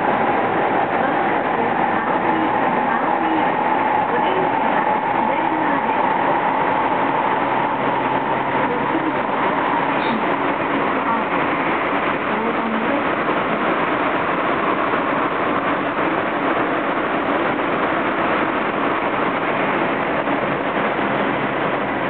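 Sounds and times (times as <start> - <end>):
train interior wheel rumble: 0.0 - 22.0.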